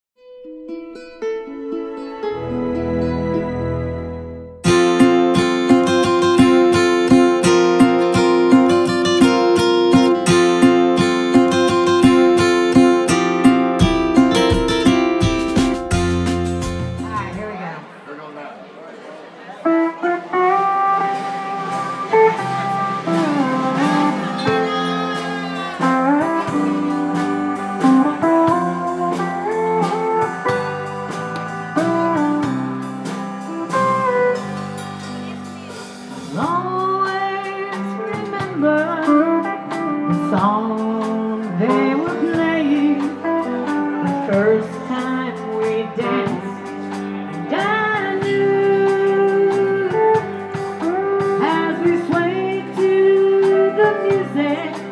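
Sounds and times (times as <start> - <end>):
steel guitar sliding notes: 0.4 - 17.4, 19.7 - 54.9
country band playing: 0.9 - 18.0, 19.5 - 54.9.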